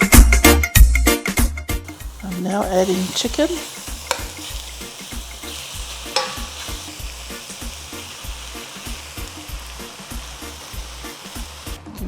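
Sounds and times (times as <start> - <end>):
chicken sizzling in hot oil: 1.4 - 12.0.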